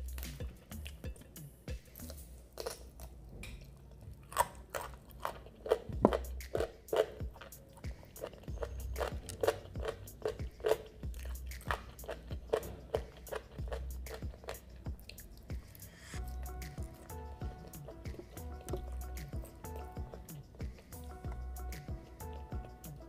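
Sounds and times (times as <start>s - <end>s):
chewing crispy fried chicken: 2.0s - 23.0s.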